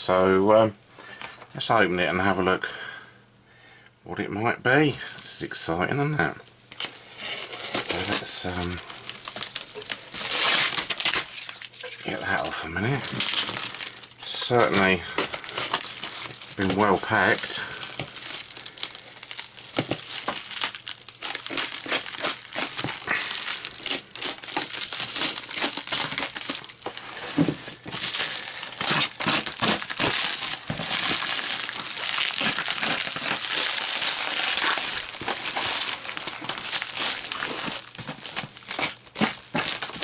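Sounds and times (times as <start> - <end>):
plastic wrap crinkling: 6.7 - 40.0
tape ripping: 6.7 - 40.0.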